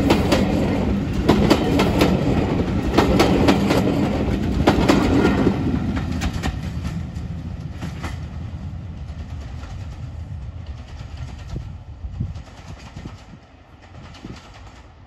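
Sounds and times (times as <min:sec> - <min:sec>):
train wheels clicking over rail joints: 0:00.0 - 0:15.0.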